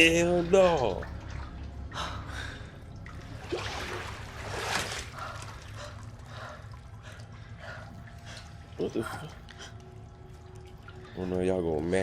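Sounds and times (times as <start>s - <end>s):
low steady hum: 0.0s - 12.0s
water sloshing and splashing: 0.0s - 12.0s.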